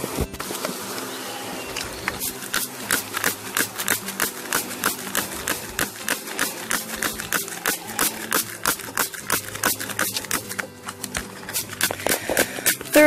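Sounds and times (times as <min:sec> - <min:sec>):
spray bottle squirting: 0:02.1 - 0:13.0.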